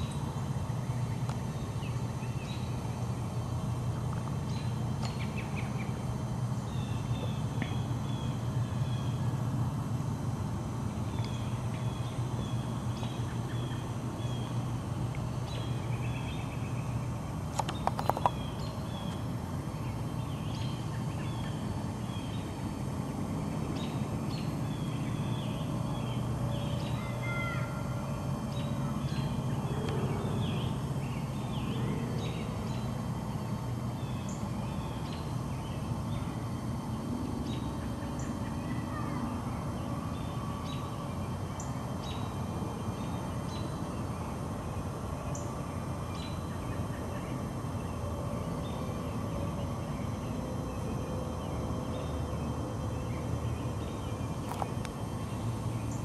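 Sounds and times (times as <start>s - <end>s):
small birds chirping: 0.0s - 9.4s, 11.0s - 56.0s.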